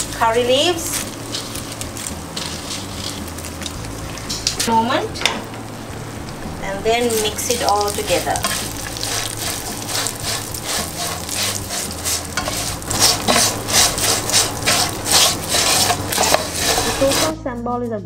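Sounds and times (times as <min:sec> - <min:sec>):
spatula scraping sizzling pan: 0:00.0 - 0:05.0, 0:05.7 - 0:17.4.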